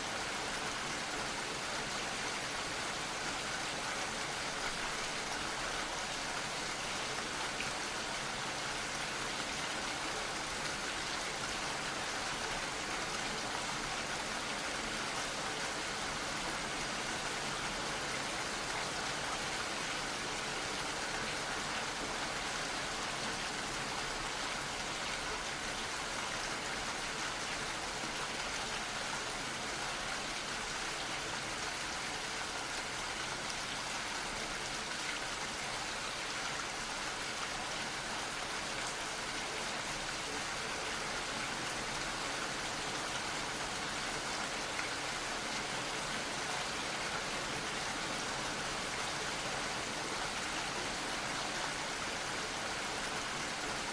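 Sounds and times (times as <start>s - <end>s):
gentle rain patter: 0.0s - 53.9s.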